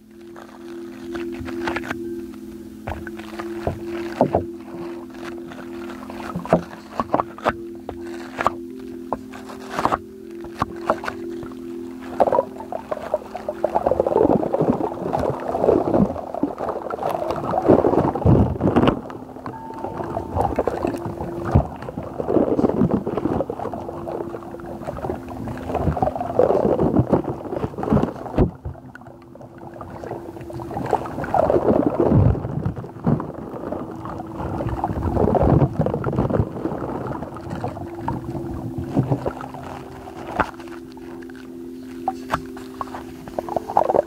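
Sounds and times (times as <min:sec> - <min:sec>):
slime squelching by hand: 0:02.9 - 0:44.0.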